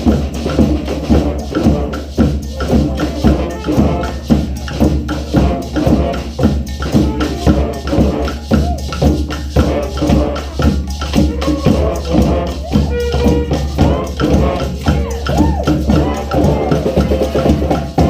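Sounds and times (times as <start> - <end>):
brass horns playing melody: 0.0 - 18.0
hand percussion and drums: 0.0 - 18.0.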